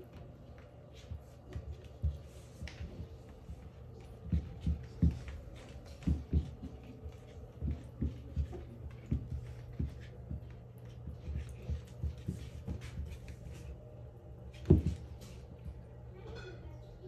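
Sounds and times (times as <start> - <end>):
steady hum: 0.0 - 17.0
tortoises plodding on hard floor: 0.1 - 13.8.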